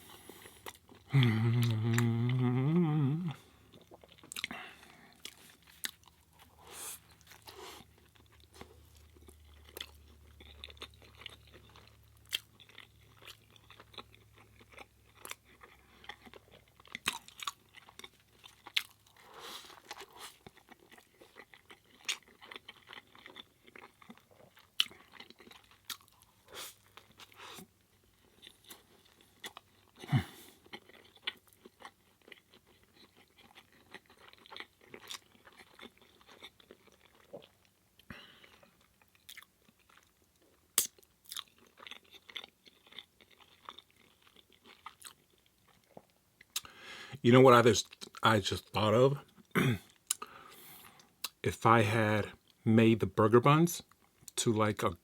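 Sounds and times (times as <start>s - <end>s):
close chewing with mouth clicks: 0.0s - 46.8s, 49.2s - 51.4s.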